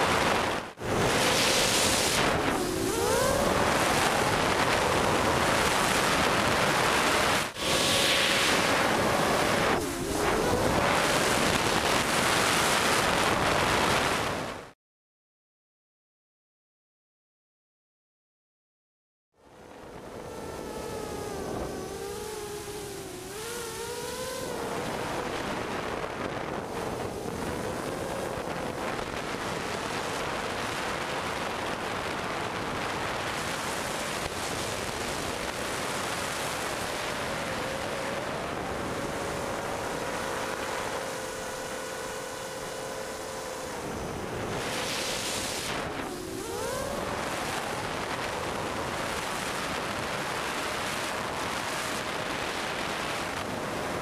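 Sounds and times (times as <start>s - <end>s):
wind on microphone: 0.0s - 14.7s, 19.6s - 54.0s
drone propellers whining: 0.2s - 13.4s, 19.4s - 54.0s.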